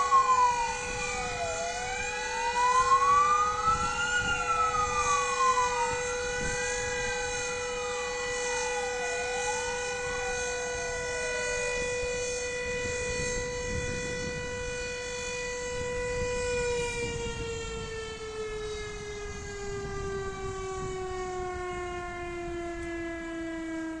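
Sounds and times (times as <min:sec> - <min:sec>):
fire engine sirens wailing: 0:00.0 - 0:24.0
steady siren tone: 0:00.0 - 0:24.0.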